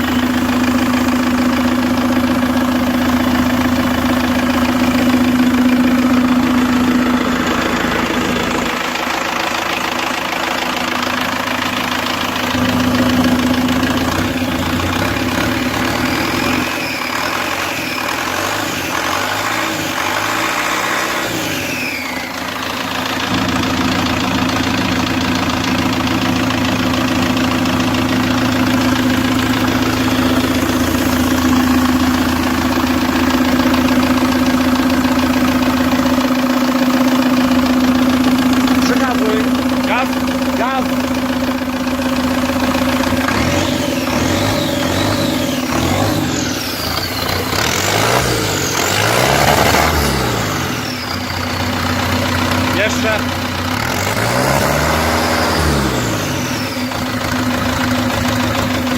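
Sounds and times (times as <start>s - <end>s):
diesel engine idling: 0.0s - 58.9s
high engine whine: 0.0s - 58.9s.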